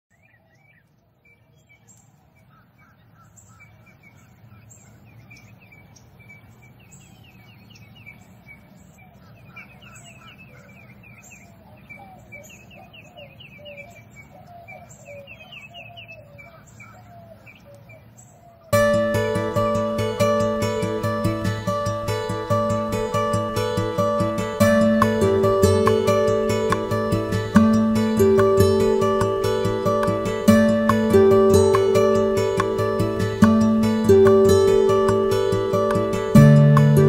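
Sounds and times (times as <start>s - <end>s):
birds chirping: 0.1s - 37.0s
low steady background noise: 0.1s - 37.0s.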